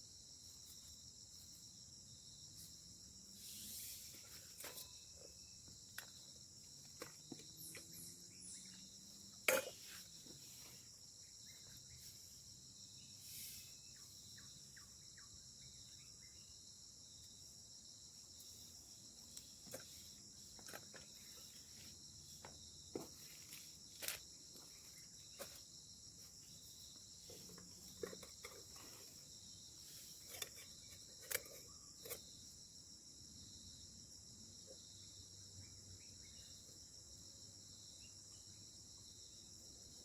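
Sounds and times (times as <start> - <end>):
crickets and insects buzzing: 0.0 - 40.0.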